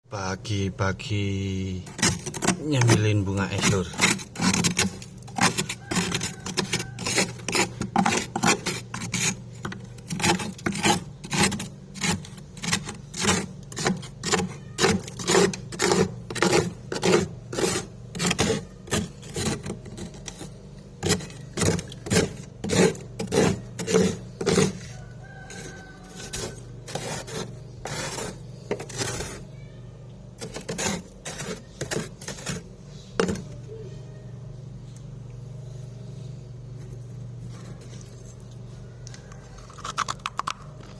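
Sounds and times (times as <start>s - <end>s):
steady low hum: 0.0s - 40.9s
crunching frost: 1.6s - 29.4s, 30.4s - 32.7s, 37.2s - 40.9s.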